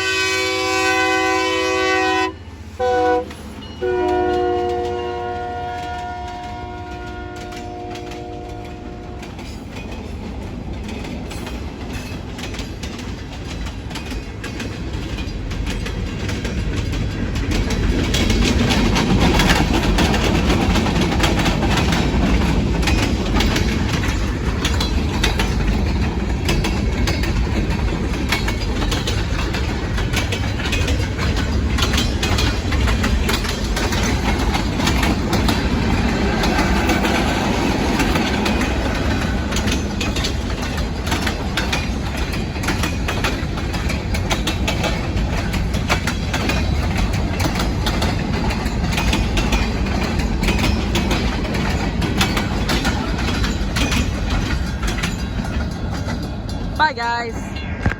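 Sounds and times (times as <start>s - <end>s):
train rumble: 0.0s - 57.9s
wheels clacking over rail joints: 0.0s - 57.9s.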